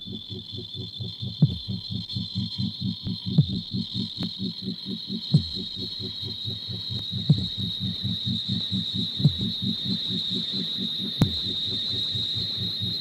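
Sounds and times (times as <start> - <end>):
high-pitched hiss: 0.0 - 13.0
low electronic throbbing: 0.0 - 13.0.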